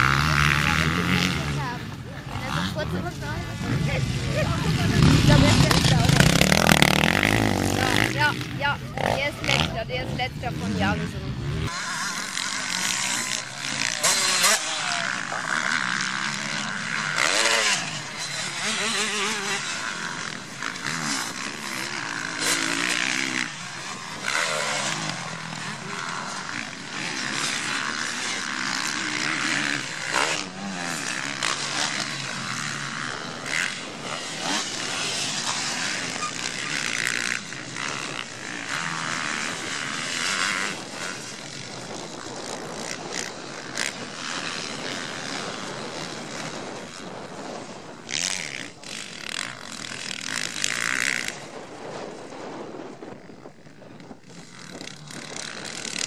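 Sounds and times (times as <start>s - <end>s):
motocross engines revving: 0.0s - 56.0s.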